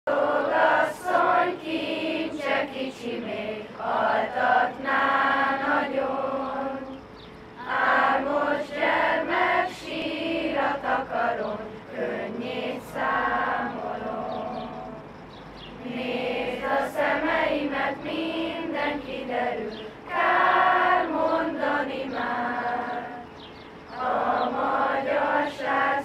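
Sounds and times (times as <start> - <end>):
children singing: 0.1 - 7.0, 7.6 - 15.1, 15.8 - 26.0.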